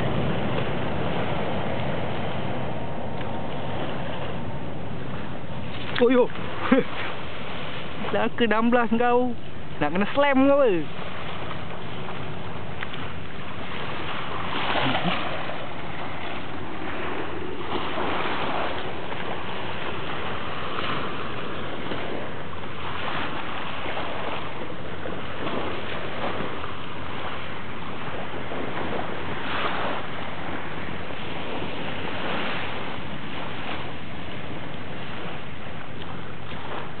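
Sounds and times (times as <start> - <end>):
waves splashing: 0.0 - 37.0
wind: 0.0 - 37.0.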